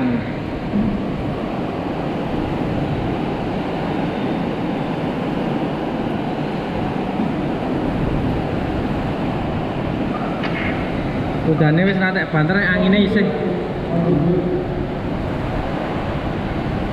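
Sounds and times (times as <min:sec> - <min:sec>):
heavy rain: 0:00.0 - 0:16.9
strong wind: 0:00.0 - 0:16.9.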